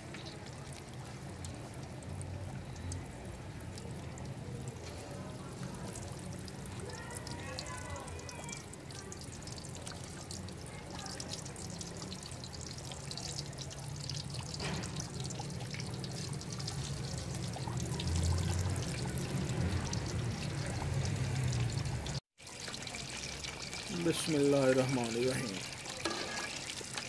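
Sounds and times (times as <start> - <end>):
fish deep-frying in oil: 0.0 - 27.0.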